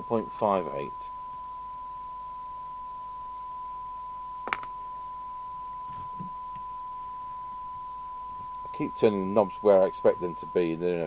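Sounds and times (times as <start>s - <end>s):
steady test tone: 0.0s - 11.0s.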